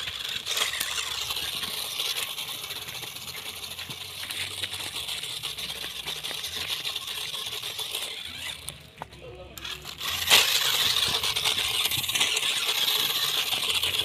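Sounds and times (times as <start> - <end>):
small electric motor whirring: 0.0 - 14.0.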